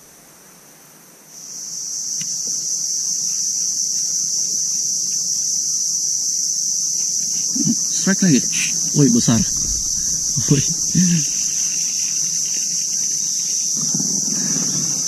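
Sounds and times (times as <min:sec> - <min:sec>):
high-pitched insect chorus: 0:01.3 - 0:15.0.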